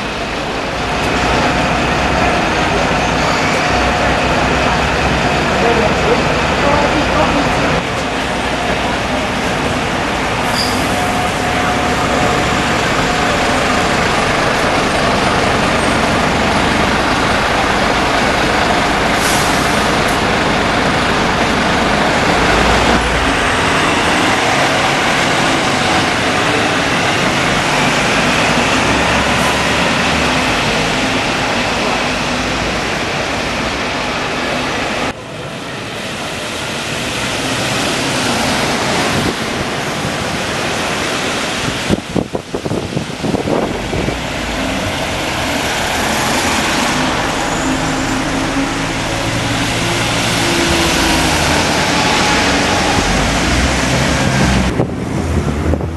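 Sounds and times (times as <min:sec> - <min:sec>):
bus engines running: 0:00.0 - 0:55.9
road traffic: 0:00.0 - 0:55.9.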